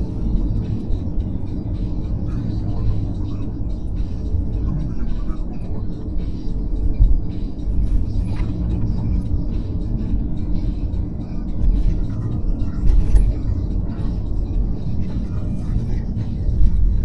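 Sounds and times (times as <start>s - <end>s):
car driving on highway: 0.0s - 17.0s.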